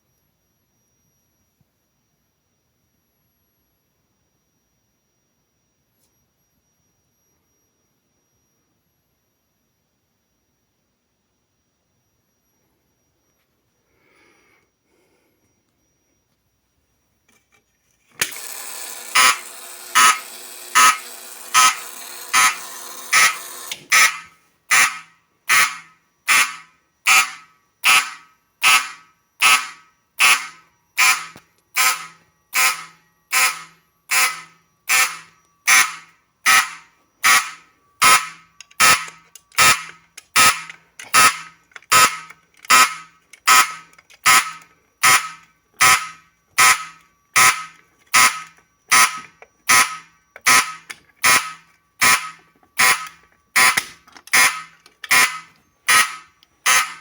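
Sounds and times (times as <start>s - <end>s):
fire alarm pulses: 3.6s - 17.2s, 18.2s - 57.0s.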